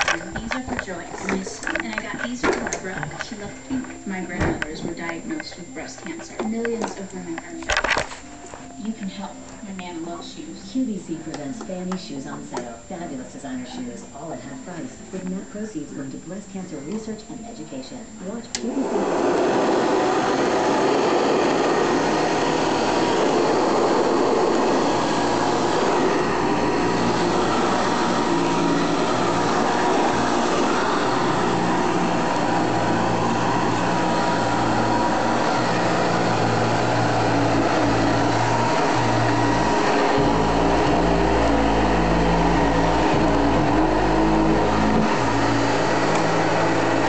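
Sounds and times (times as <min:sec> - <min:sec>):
upright vacuum cleaner running: 0:00.0 - 0:47.0.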